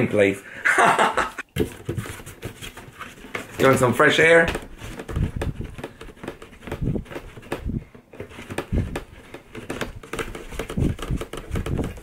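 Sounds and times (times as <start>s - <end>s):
cardboard box being handled: 1.6s - 12.0s.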